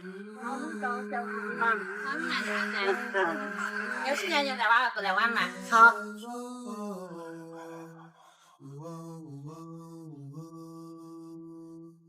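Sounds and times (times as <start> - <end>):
low voice chant-like singing: 0.0 - 12.0.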